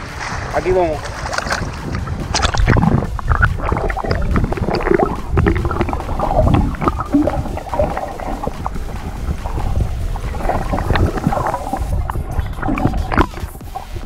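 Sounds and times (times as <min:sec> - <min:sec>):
muffled underwater rumbling and gurgling: 0:00.0 - 0:14.0
water splashing: 0:00.0 - 0:14.0.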